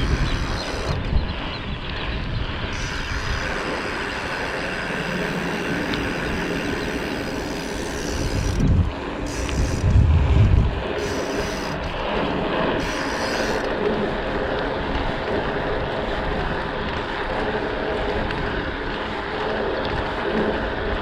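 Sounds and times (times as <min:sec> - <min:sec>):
bicycle ride rushing noise: 0:00.0 - 0:21.0
wind rumbling on microphone: 0:00.0 - 0:21.0.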